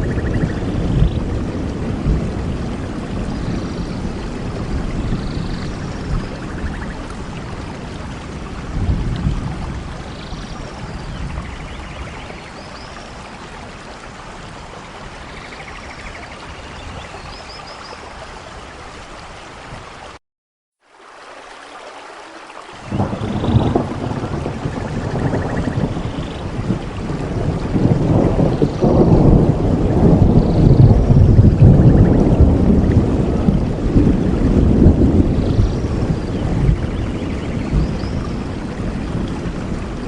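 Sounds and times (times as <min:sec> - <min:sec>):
low rumbles of thunder: 0:00.0 - 0:17.4, 0:22.8 - 0:40.0
steady rain: 0:00.0 - 0:20.2, 0:20.8 - 0:40.0.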